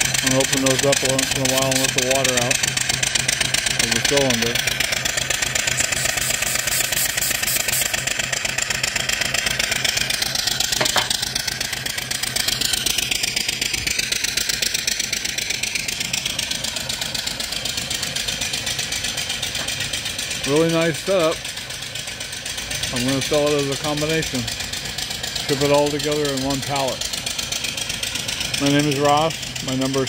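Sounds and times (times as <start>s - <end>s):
steam engine chuffing: 0.0s - 30.0s.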